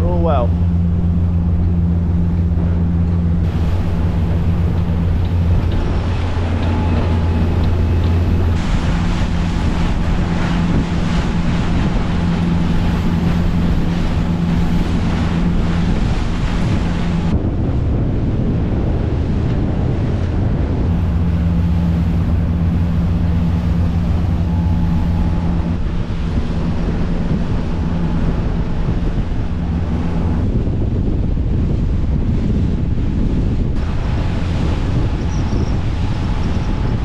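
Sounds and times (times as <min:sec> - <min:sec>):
motor boat engines droning: 0:00.0 - 0:37.0
water rushing past hull: 0:00.0 - 0:37.0
wind buffeting microphone: 0:00.0 - 0:37.0.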